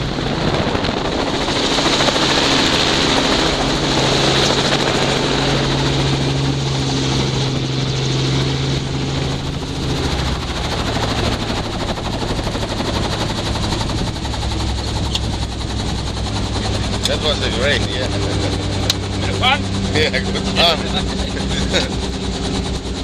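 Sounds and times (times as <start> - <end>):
helicopter engine hum: 0.0 - 23.0
helicopter rotor chopping: 0.0 - 23.0.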